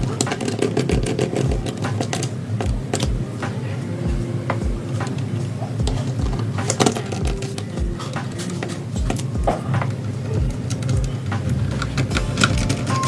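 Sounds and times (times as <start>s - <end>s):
music with low beat and bass: 0.0s - 13.0s.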